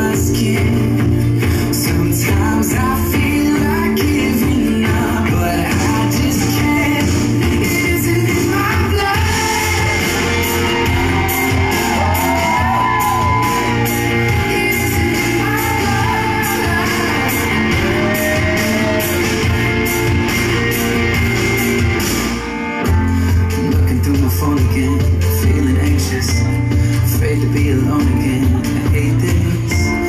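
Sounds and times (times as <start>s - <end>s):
loud pop song in hall: 0.0s - 30.0s.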